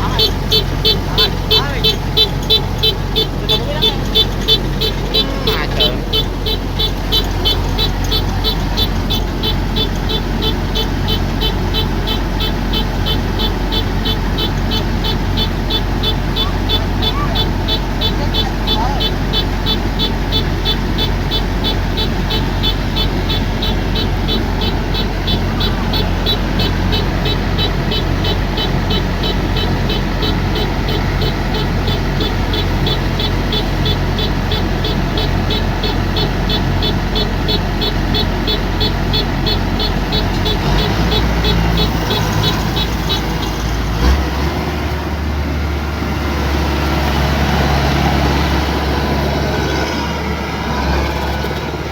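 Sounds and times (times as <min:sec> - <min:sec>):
rapid high-pitched electronic beeping: 0:00.0 - 0:43.7
diesel engine running: 0:00.0 - 0:51.9.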